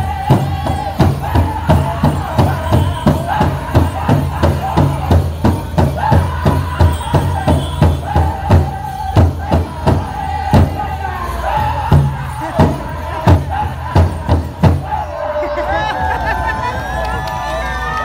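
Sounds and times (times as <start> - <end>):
drum group drumbeats: 0.0 - 15.1
high held singing: 0.0 - 18.0.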